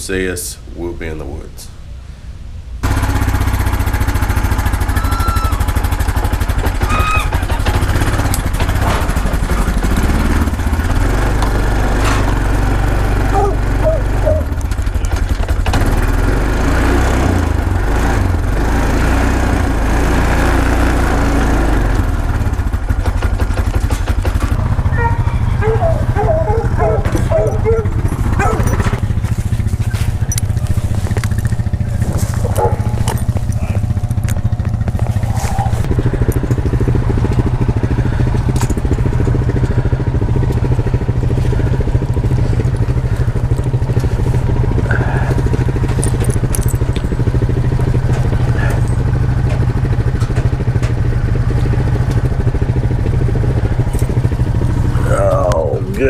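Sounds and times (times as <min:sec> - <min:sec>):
vehicle engine droning: 0:02.8 - 0:56.0.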